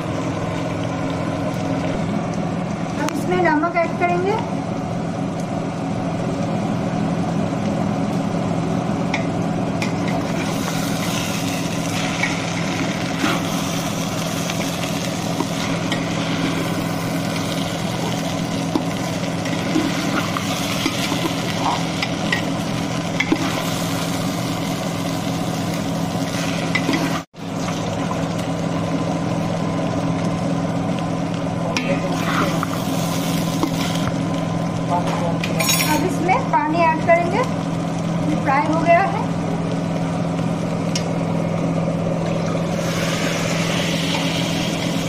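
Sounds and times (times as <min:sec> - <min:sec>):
rice sizzling in a pot: 0:00.0 - 0:45.0.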